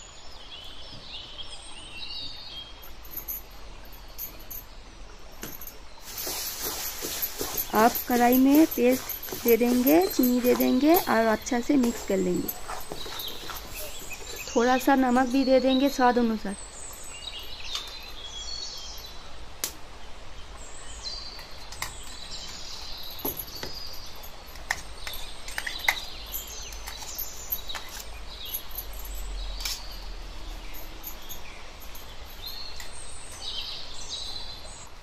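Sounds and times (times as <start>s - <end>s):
small birds chirping: 0.0s - 19.3s, 19.9s - 35.0s.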